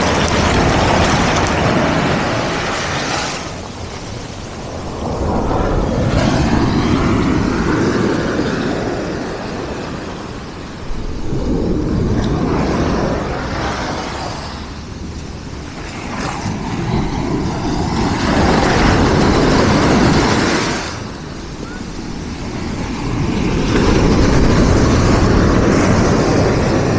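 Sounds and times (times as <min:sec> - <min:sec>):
surf washing up pebble beach: 0:00.0 - 0:26.9.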